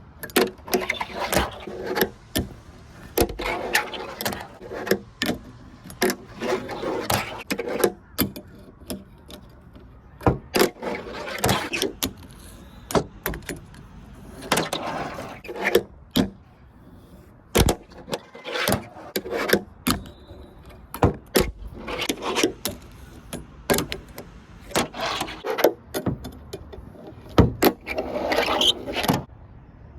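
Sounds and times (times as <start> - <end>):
fingerboard wheels rolling: 0.0 - 29.3.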